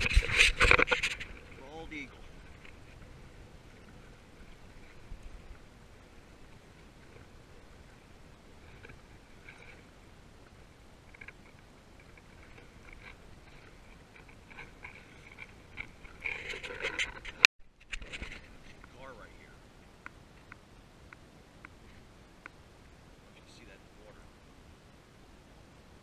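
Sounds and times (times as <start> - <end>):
waves lapping against kayak hull: 0.0 - 24.2
low wind rumble: 0.0 - 26.0.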